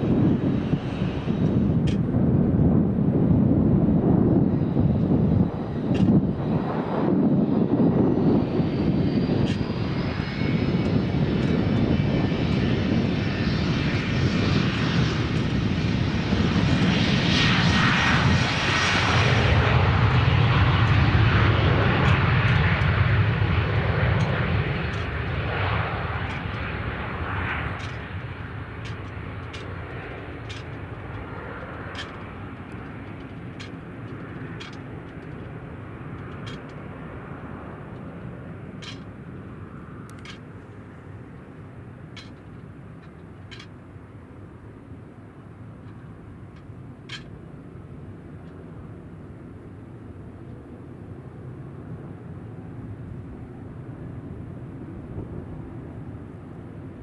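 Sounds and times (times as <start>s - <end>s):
jet taking off: 0.0s - 57.0s.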